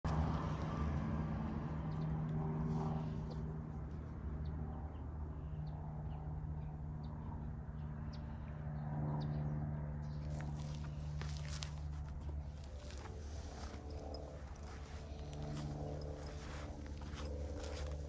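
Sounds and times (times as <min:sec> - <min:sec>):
low mechanical hum: 0:00.1 - 0:18.0.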